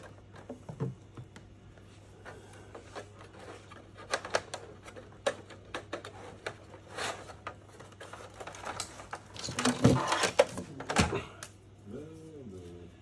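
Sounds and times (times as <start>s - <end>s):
clicks and knocks of plastic parts: 0.0s - 11.6s.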